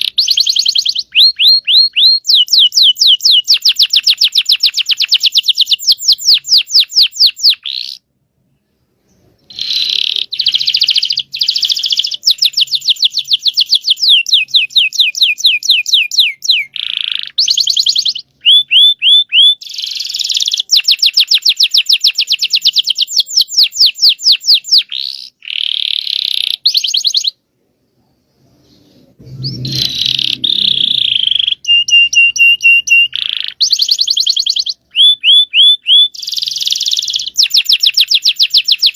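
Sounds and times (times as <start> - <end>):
canary singing trills: 0.0 - 8.1, 9.1 - 27.4, 28.6 - 38.9.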